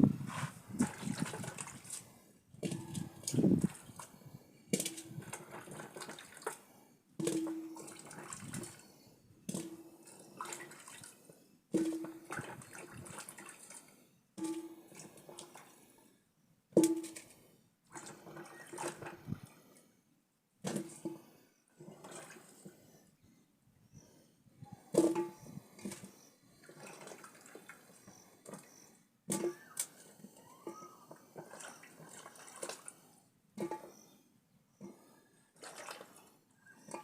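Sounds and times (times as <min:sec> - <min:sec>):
water splashing and sloshing: 0:00.3 - 0:08.9, 0:09.5 - 0:15.8, 0:16.8 - 0:19.5, 0:21.8 - 0:22.9, 0:24.9 - 0:34.0, 0:34.8 - 0:37.0.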